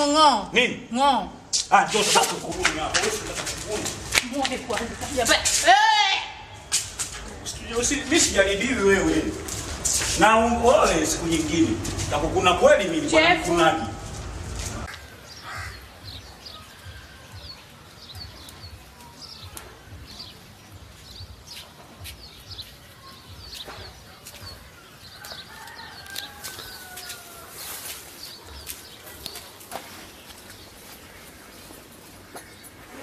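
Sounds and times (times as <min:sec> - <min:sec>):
small birds chirping: 0:06.5 - 0:33.0.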